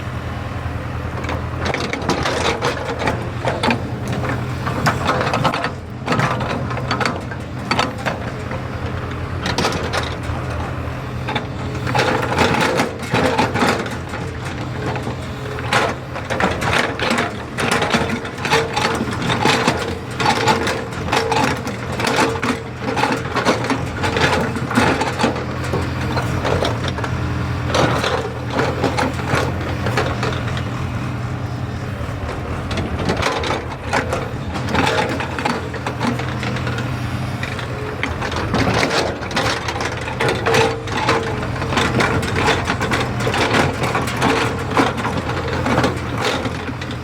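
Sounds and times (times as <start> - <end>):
excavator diesel engine running: 0.0 - 47.0
clattering and crunching: 1.2 - 47.0.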